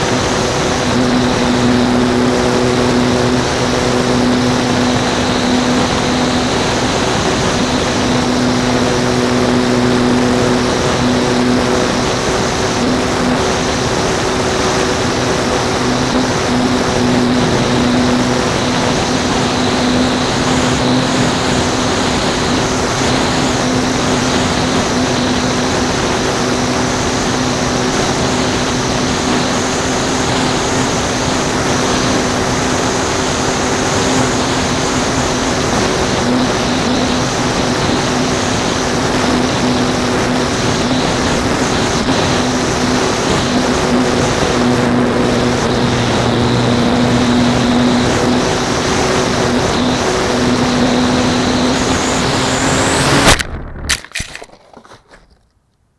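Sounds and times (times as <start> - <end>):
wind rush over airframe: 0.0 - 53.9
model airplane motor and propeller: 0.0 - 55.5.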